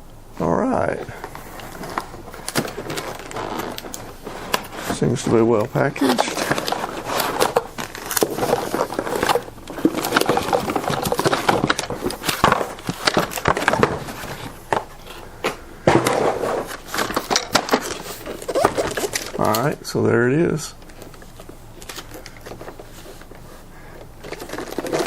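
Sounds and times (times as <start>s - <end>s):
cardboard packaging rustling: 0.9s - 25.0s.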